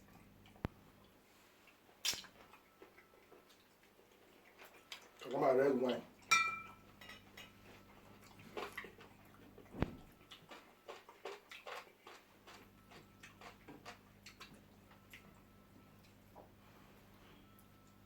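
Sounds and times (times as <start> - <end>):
soft chewing and mouth smacks: 0.0 - 18.0.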